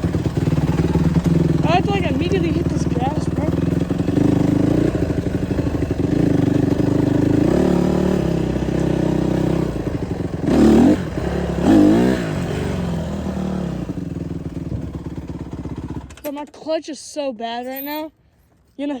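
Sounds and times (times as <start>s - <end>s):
dirt bike engine revving: 0.0s - 16.2s.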